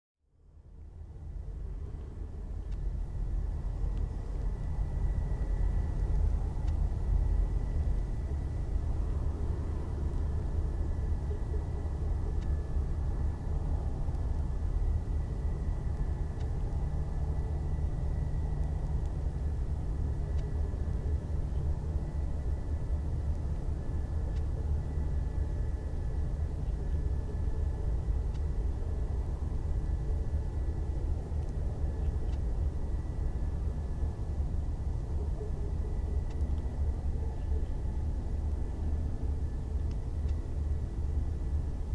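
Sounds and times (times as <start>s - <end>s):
low aircraft rumble: 0.2s - 41.9s.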